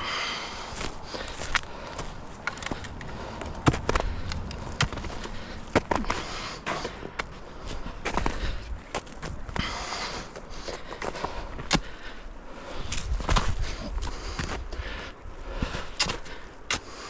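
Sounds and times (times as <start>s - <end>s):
footsteps on sticks and debris: 0.0s - 17.0s
heavy breath: 0.0s - 17.0s.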